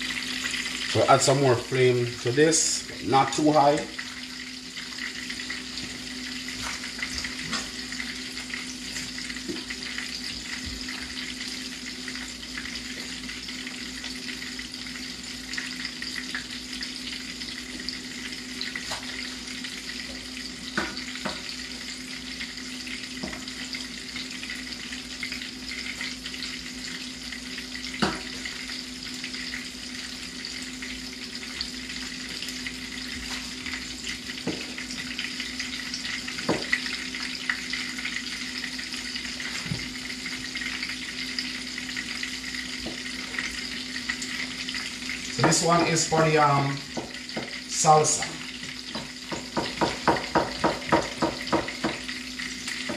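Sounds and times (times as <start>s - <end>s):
fish sizzling in oil: 0.0s - 52.9s.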